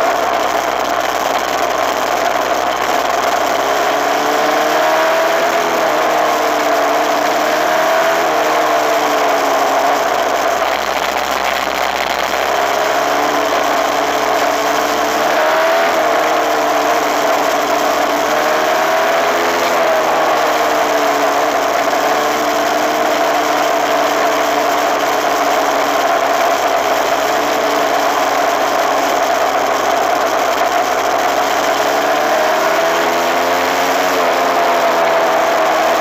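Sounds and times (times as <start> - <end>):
dirt bike engine running: 0.0 - 36.0
steady rushing noise: 0.0 - 36.0.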